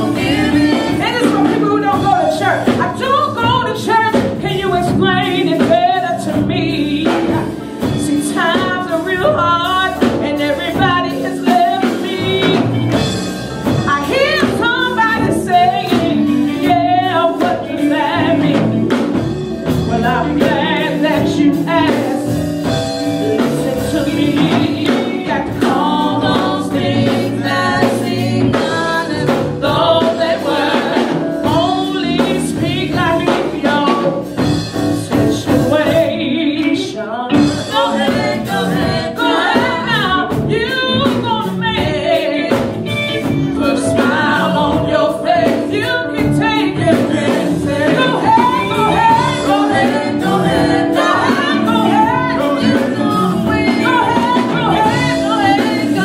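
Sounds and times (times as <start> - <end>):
backing singers: 0.0 - 3.0, 4.8 - 34.4, 35.0 - 56.0
instrumental accompaniment: 0.0 - 56.0
woman singing gospel: 0.0 - 56.0.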